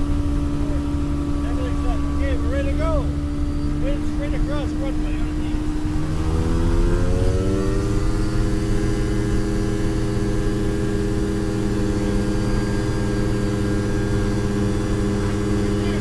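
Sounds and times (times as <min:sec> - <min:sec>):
aircraft engine at high power: 0:00.0 - 0:16.0.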